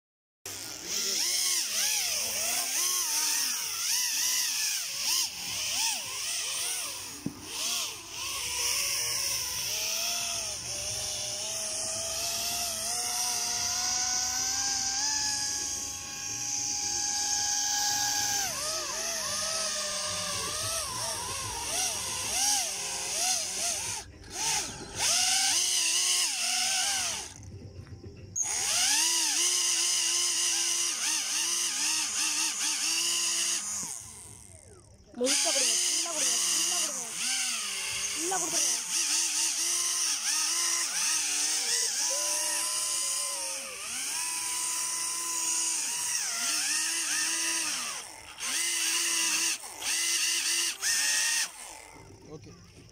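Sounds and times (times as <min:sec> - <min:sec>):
electric ducted fans whining: 0:00.5 - 0:52.9.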